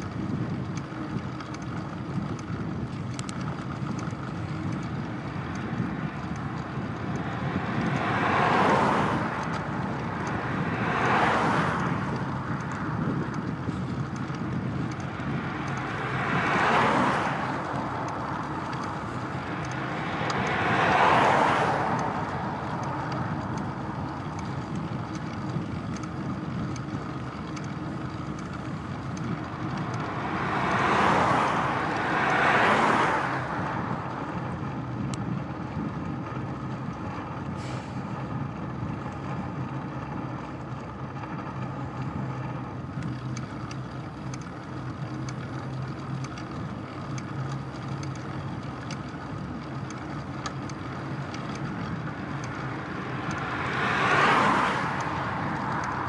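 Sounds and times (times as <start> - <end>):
cars passing: 0.0 - 56.0
wind: 0.0 - 56.0.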